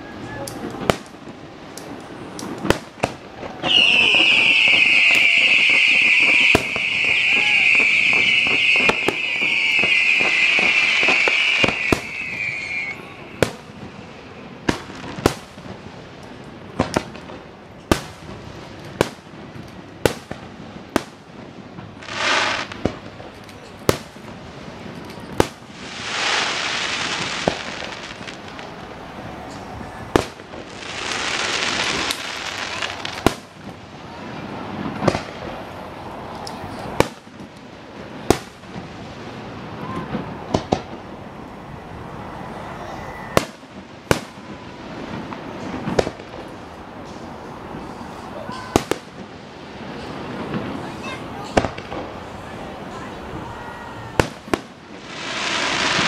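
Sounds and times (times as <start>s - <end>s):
crackling hiss: 0.0s - 56.0s
firework hiss: 0.0s - 56.0s
firework bangs: 0.1s - 56.0s.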